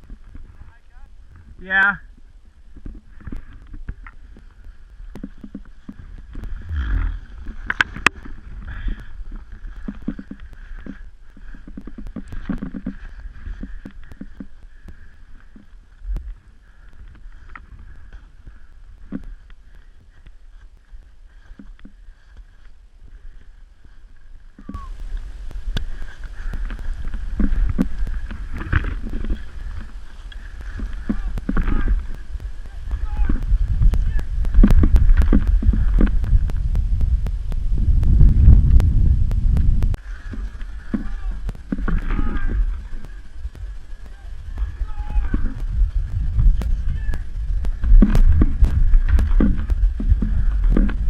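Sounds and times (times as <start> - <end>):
steady rushing noise: 0.0 - 51.0
wind on microphone: 0.0 - 51.0
skis scraping in snow: 2.5 - 51.0.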